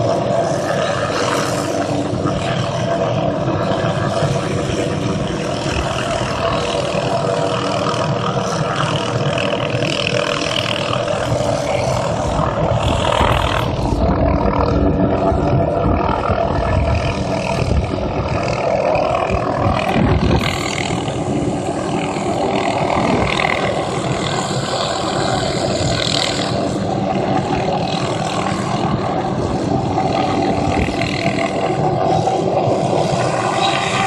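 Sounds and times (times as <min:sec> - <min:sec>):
helicopter rotor chop and engine: 0:00.0 - 0:34.0.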